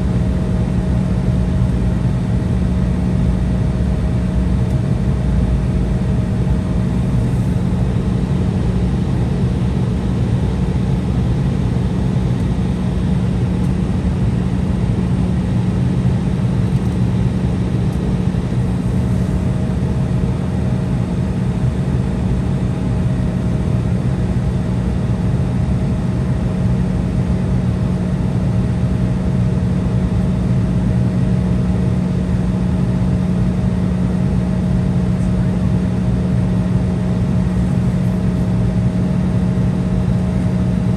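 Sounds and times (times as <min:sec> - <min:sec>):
jet engines humming in cabin: 0:00.0 - 0:40.9.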